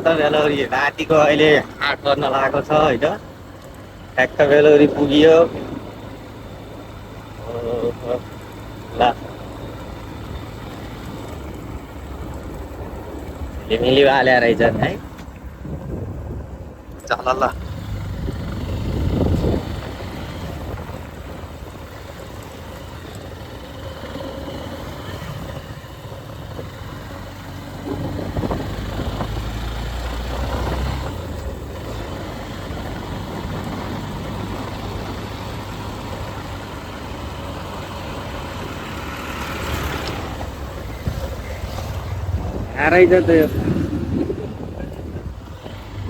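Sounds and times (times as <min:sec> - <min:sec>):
motorcycle engine drone: 0:00.0 - 0:46.0.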